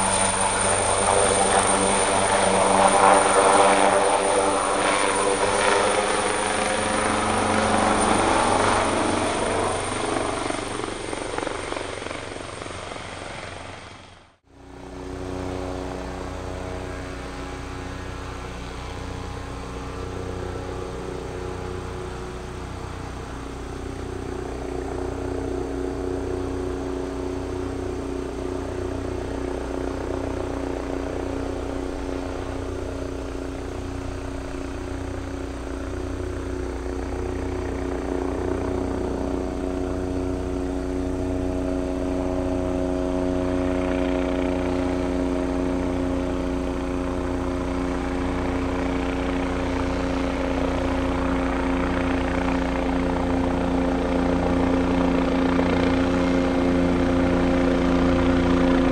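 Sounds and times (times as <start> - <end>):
helicopter rotor beat: 0.0 - 58.9
helicopter turbine whine: 0.0 - 58.9
rushing rotor-wash noise: 0.0 - 58.9.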